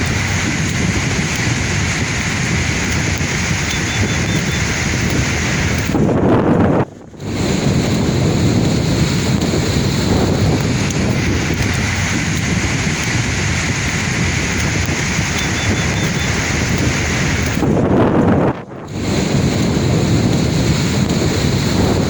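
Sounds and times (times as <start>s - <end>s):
sea surf washing in: 0.0s - 22.0s
wind buffeting microphone: 0.0s - 22.0s.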